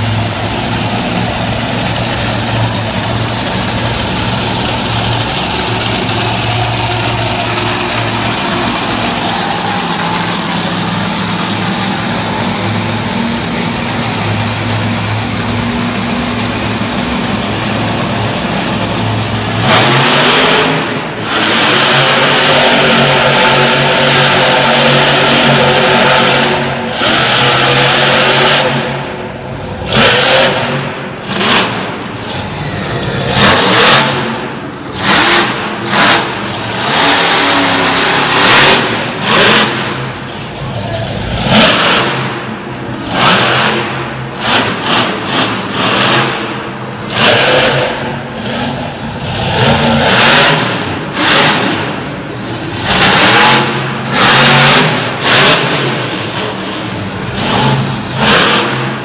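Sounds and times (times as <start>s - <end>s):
monster truck engine revving: 0.0s - 59.0s.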